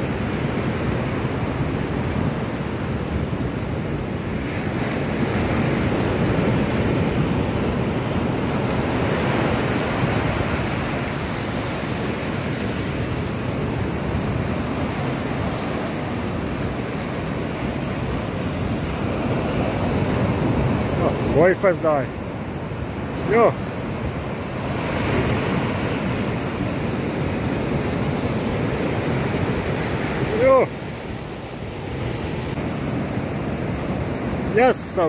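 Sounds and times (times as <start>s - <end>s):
surf breaking over shallows: 0.0s - 35.0s.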